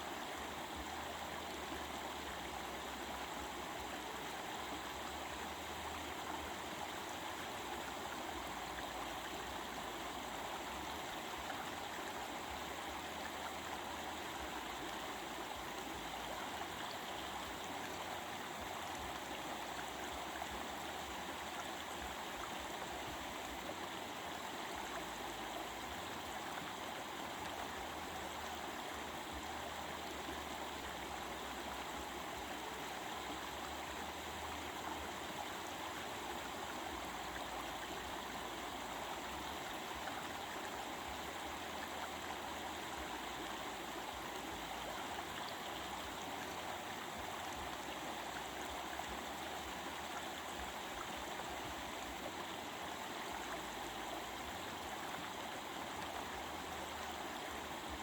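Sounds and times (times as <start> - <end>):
stream water running over rocks: 0.0 - 58.0.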